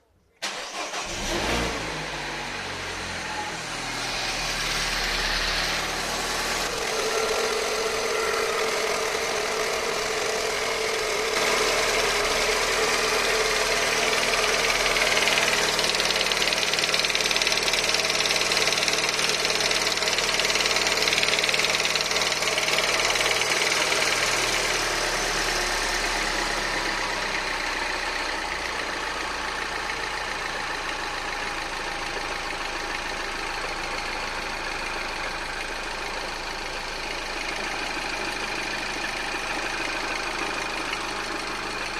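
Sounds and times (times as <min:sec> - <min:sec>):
car engine running: 0:02.1 - 0:41.9
engine rattle: 0:04.1 - 0:41.9.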